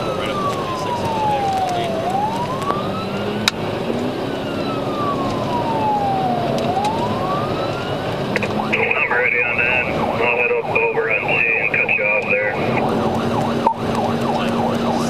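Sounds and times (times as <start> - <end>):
police siren wailing: 0.0 - 15.0
road noise: 0.0 - 15.0.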